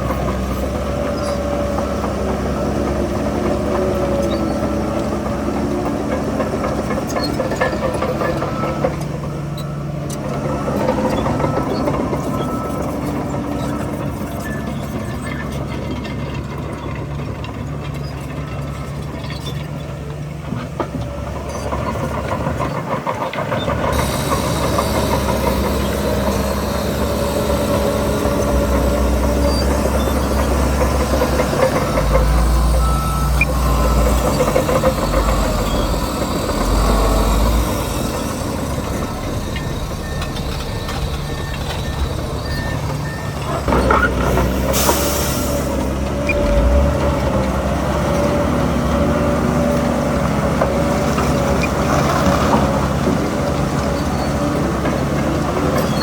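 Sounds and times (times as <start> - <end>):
diesel earthmoving machinery rumbling: 0.0 - 56.0.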